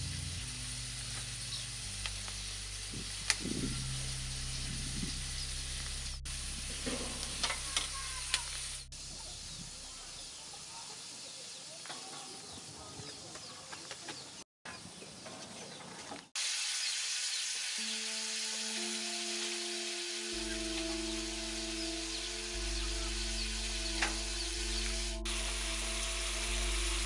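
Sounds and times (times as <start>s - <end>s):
meat sizzling in a wok: 0.0s - 12.6s, 16.4s - 27.0s.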